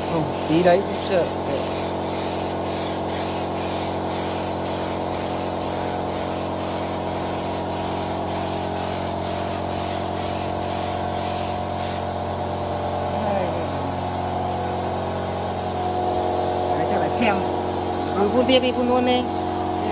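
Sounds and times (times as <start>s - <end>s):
air compressor humming: 0.0s - 19.9s
spray gun hissing: 0.0s - 19.9s.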